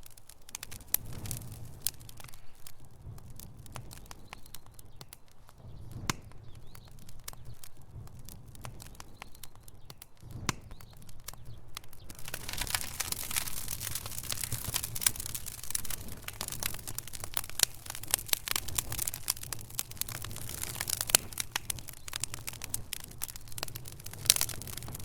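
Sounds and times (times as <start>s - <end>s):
logs crackling in fireplace: 0.0s - 25.0s.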